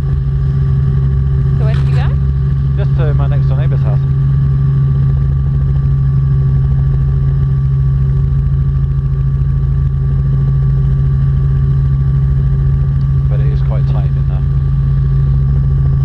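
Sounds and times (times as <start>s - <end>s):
helicopter cabin drone: 0.0s - 16.0s.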